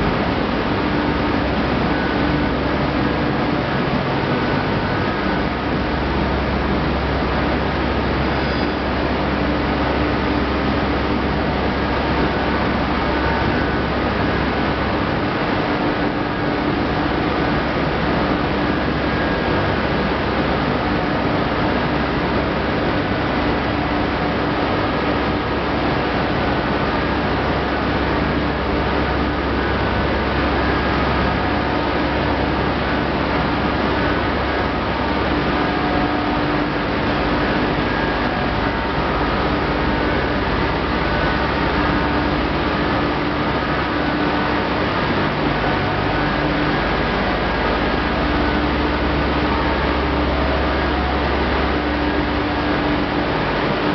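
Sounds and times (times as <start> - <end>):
faint constant hum: 0.0 - 53.9
machinery running: 0.0 - 53.9.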